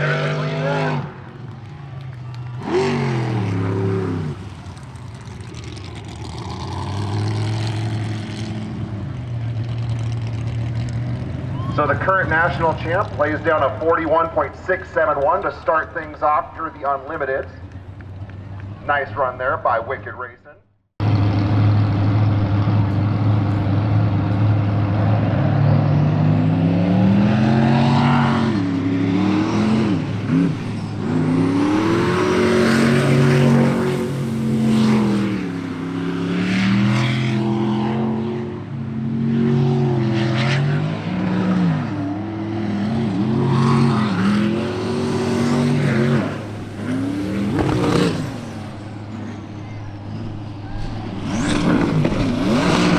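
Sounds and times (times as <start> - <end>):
racing boat engine revving: 0.0 - 1.3, 2.4 - 15.8, 21.0 - 52.9.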